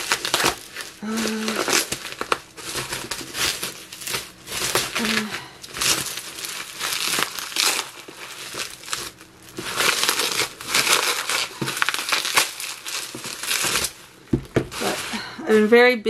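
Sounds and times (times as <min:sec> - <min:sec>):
plastic packaging crinkling: 0:00.0 - 0:15.6.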